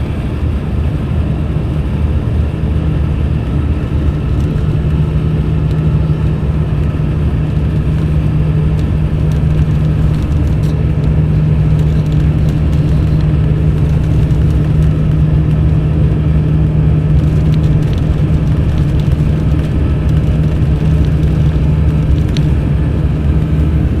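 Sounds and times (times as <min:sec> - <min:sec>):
coach diesel engine drone: 0:00.0 - 0:24.0.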